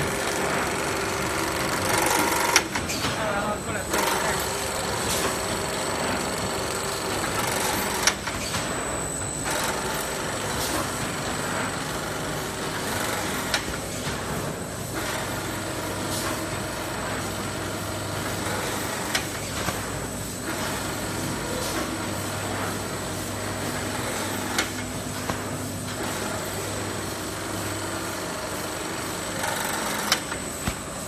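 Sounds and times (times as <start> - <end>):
packing machine running: 0.0 - 31.0.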